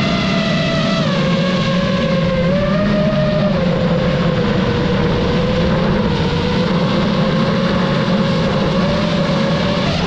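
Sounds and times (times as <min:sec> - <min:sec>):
drone propellers buzzing: 0:00.0 - 0:10.0.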